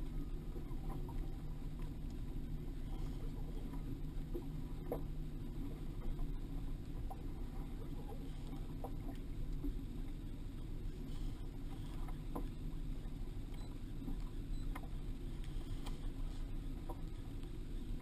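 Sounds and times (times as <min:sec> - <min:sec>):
fishing boat engine rumble: 0:00.0 - 0:18.0.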